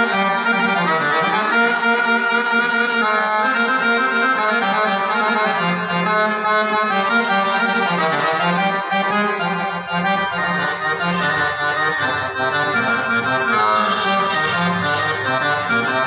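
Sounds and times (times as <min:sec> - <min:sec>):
solo accordion improvisation: 0:00.0 - 0:16.0.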